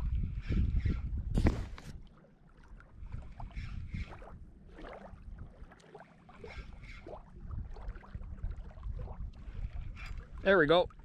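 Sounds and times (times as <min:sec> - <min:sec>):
wind rumbling on microphone: 0:00.0 - 0:02.1, 0:02.7 - 0:05.8, 0:06.4 - 0:11.0.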